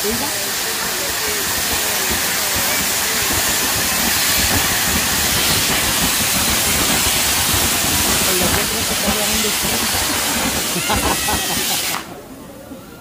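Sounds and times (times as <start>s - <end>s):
fireworks hissing and crackling: 0.0s - 12.4s.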